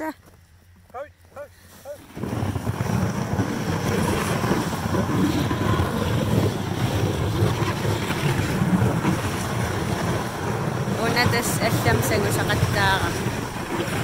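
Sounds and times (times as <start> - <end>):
wind buffeting microphone: 1.9 - 14.0.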